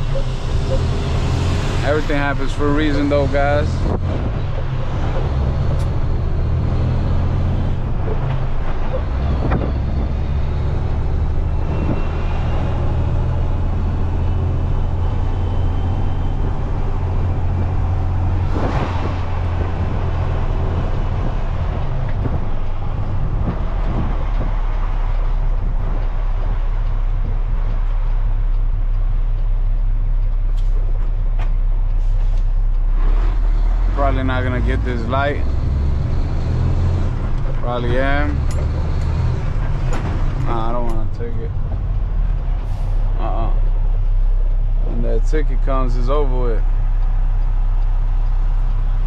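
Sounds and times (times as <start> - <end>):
diesel truck engine running: 0.0 - 49.0.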